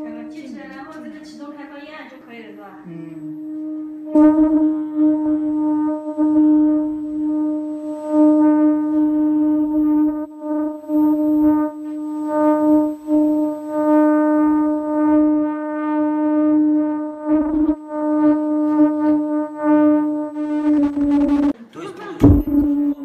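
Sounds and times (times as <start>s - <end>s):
machine humming: 2.8s - 21.6s, 22.2s - 23.0s.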